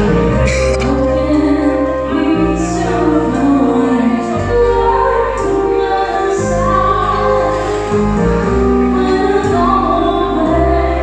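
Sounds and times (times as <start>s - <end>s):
keyboard chords and bass backing: 0.0s - 11.0s
woman singing a slow ballad: 0.5s - 11.0s.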